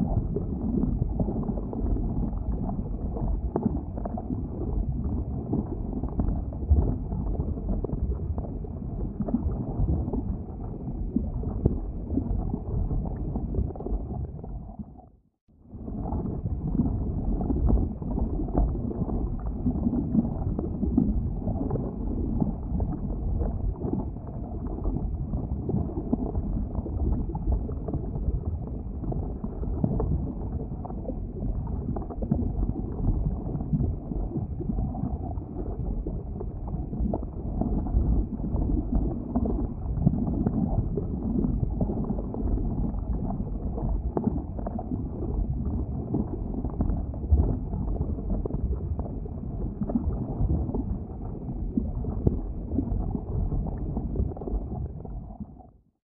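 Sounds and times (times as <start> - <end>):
lava bubbling with deep rumble: 0.0 - 56.0.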